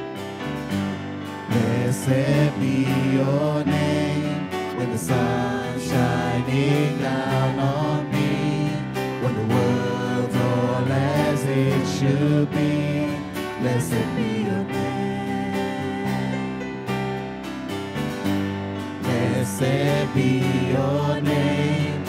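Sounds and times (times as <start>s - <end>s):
electric bass guitar: 0.0s - 22.0s
electric guitar: 0.0s - 22.0s
voices singing: 1.5s - 16.6s, 19.0s - 22.0s.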